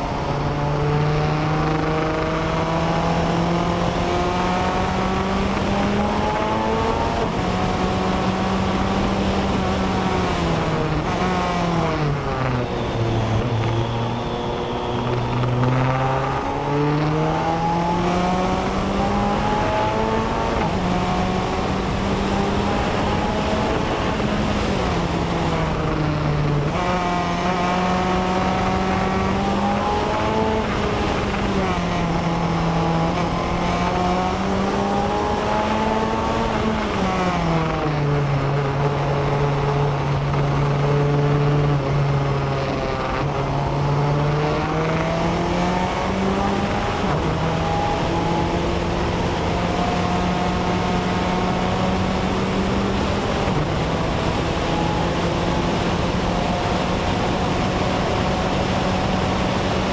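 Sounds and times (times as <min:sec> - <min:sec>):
car engine at speed: 0:00.0 - 0:59.9.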